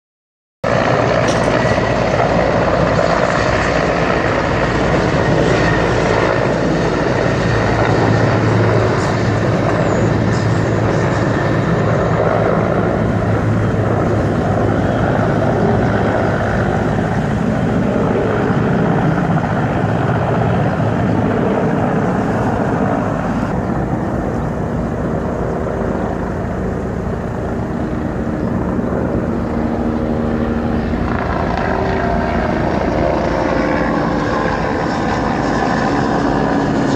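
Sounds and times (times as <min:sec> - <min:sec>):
helicopter rotor and engine noise: 0:00.6 - 0:36.9.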